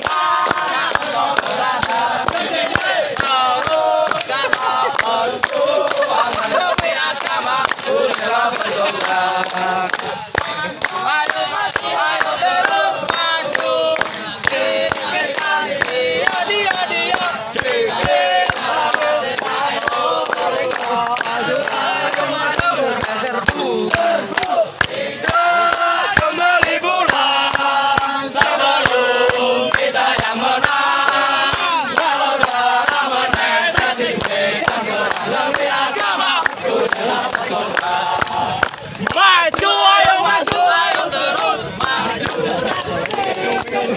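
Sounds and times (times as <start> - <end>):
crowd singing in unison: 0.0 - 43.9
rhythmic hand-clapping: 0.0 - 43.9.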